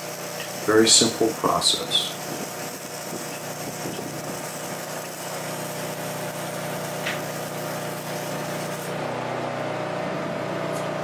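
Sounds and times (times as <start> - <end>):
welding arc sizzling hiss: 0.0 - 9.0
welder engine humming: 0.0 - 11.0.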